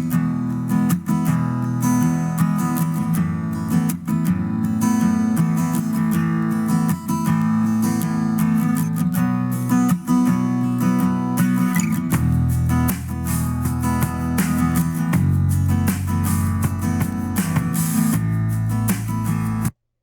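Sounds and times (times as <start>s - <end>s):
strummed acoustic guitar: 0.0s - 19.8s.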